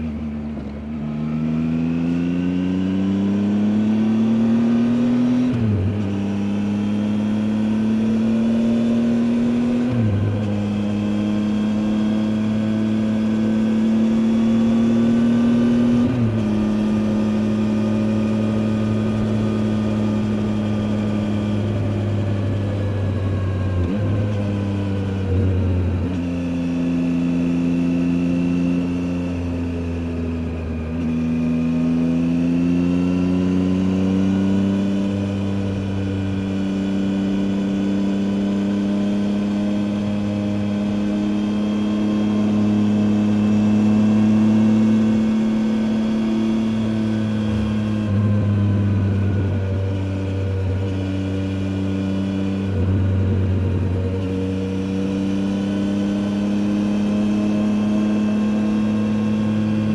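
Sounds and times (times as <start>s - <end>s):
motorcycle engine shifting gears: 0.4s - 59.9s.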